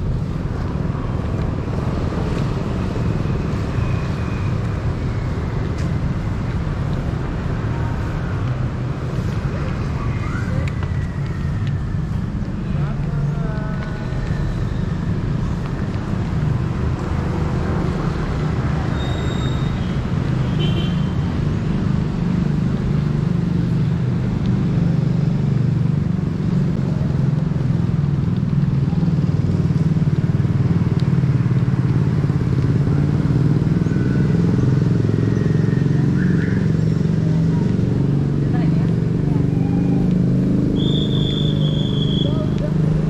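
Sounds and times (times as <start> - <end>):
motorcycle and car engines: 0.0 - 43.0.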